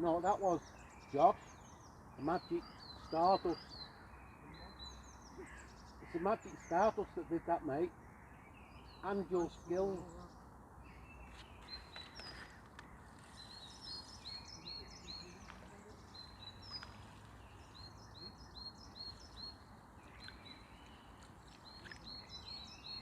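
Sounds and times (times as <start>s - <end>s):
steady outdoor hiss: 0.0s - 23.0s
small bird chirping: 0.1s - 23.0s.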